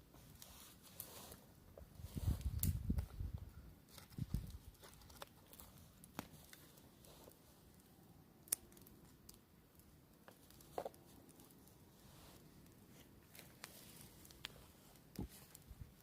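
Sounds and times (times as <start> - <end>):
campfire crackling and popping: 0.2 - 16.0.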